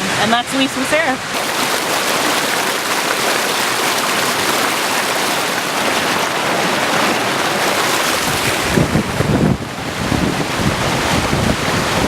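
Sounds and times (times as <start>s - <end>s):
waterfall rushing: 0.0s - 12.0s
wind buffeting microphone: 1.4s - 12.0s.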